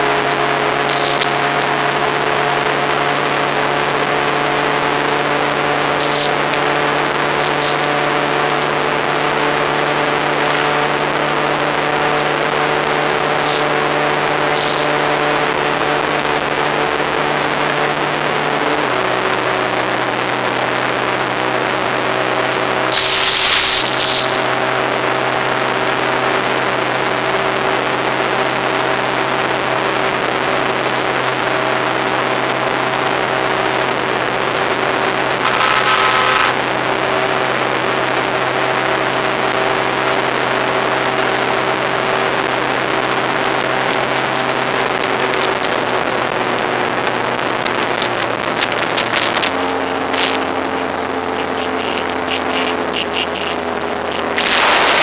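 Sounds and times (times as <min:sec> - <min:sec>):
loud rush of noise: 0:00.0 - 0:28.1, 0:31.9 - 0:55.0
motorcycle engine running: 0:00.0 - 0:55.0
wind and road noise: 0:00.0 - 0:55.0.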